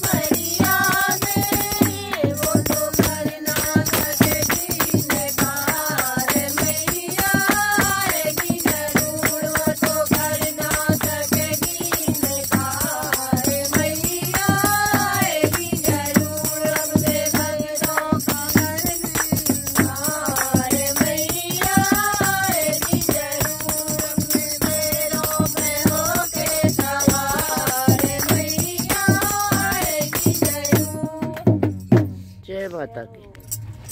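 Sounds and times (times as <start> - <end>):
rapid rhythmic hand clapping: 0.0 - 31.8
women singing devotional song: 0.0 - 33.9.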